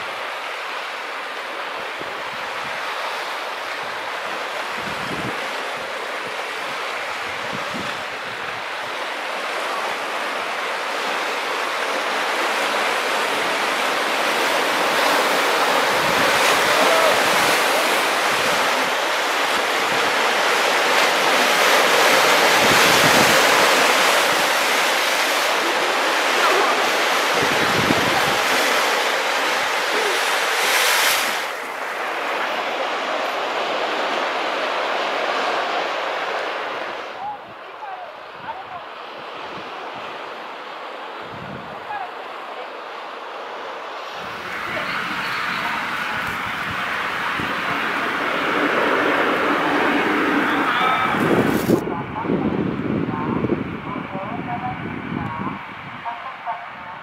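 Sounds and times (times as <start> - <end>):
surf breaking over rocks: 0.0 - 52.7.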